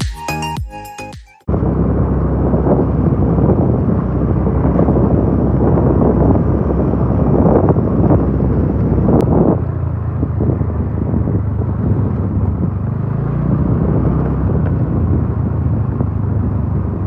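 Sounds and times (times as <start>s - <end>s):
scooter engine: 1.5s - 17.0s
wind buffeting microphone: 1.5s - 17.0s.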